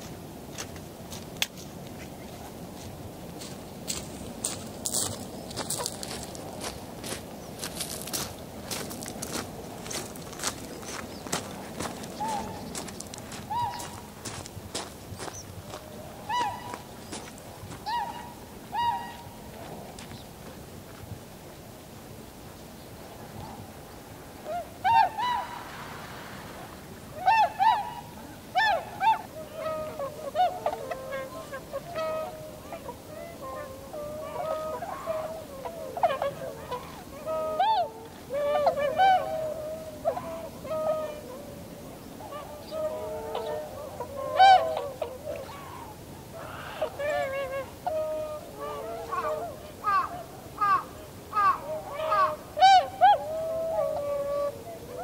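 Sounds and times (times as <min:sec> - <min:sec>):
swans honking: 0:03.4 - 0:19.7, 0:24.4 - 0:55.0.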